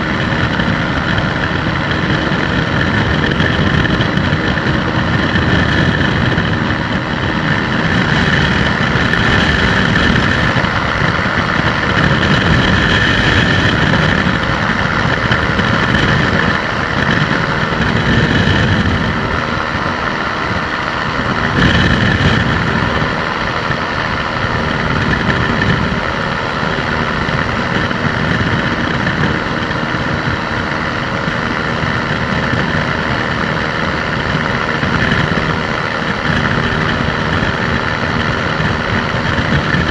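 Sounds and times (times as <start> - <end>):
light aircraft engine drone: 0.0 - 39.9
wind buffeting microphone: 0.0 - 39.9.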